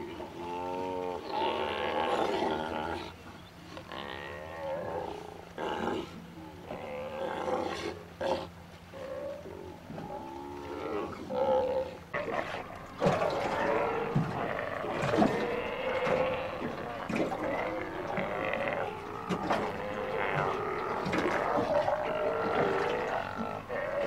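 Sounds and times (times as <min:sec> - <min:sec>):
sea lions growling roars: 0:00.0 - 0:03.2, 0:03.8 - 0:24.0.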